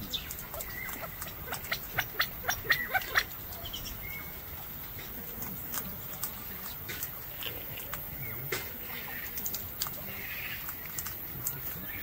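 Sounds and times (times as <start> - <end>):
stones clicking under pecking birds: 0.0 - 3.9, 4.9 - 12.0
birds chirping: 0.0 - 12.0.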